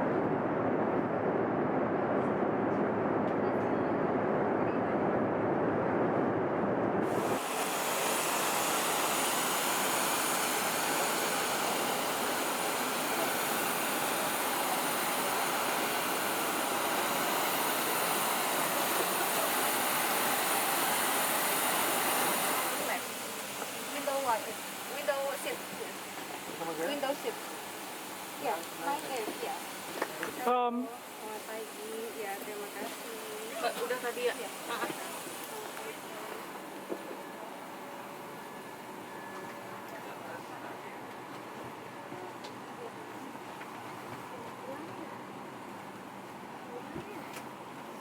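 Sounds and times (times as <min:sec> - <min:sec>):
jet airliner rumble: 0:00.0 - 0:41.5
high steady jet whine: 0:00.0 - 0:43.4.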